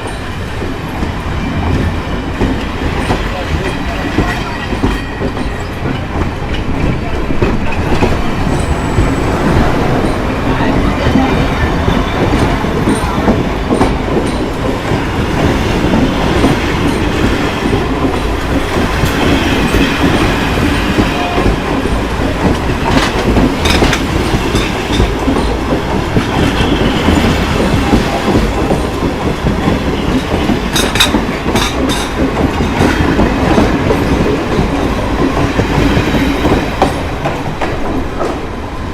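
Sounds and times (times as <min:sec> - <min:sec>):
clickety-clack of rail joints: 0:00.0 - 0:38.8
train wheels rumbling on rails: 0:00.0 - 0:38.9.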